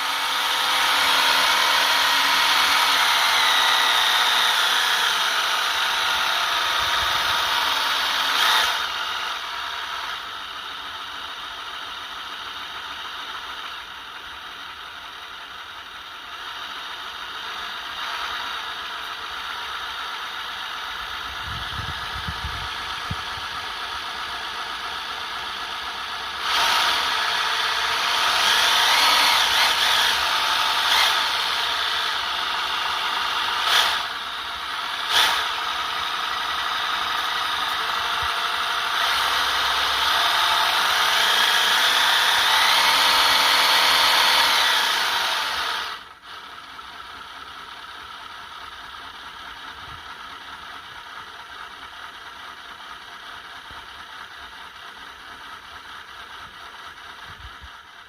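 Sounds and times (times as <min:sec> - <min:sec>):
small motor and gears whirring: 0:00.0 - 0:58.0.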